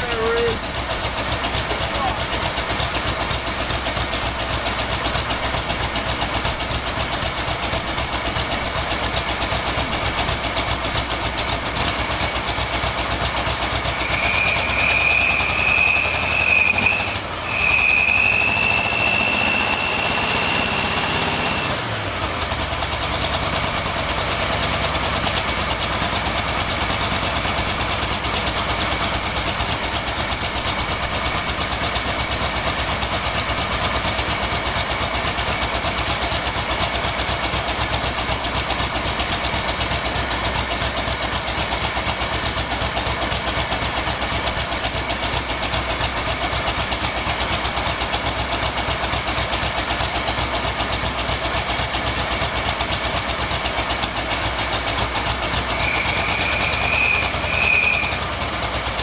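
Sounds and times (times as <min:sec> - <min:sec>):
engine idling and revving with whine: 0:00.0 - 0:59.0.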